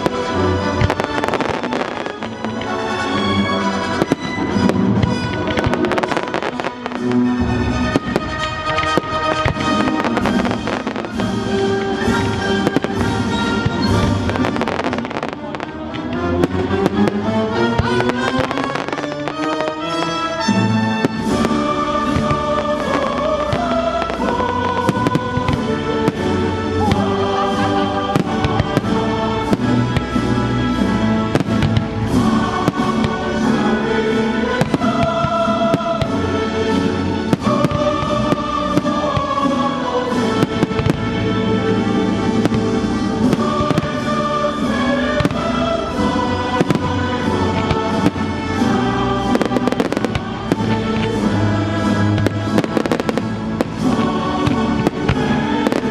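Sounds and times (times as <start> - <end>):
fireworks bangs and crackles: 0.0 - 55.9
music with sustained notes: 0.0 - 55.9.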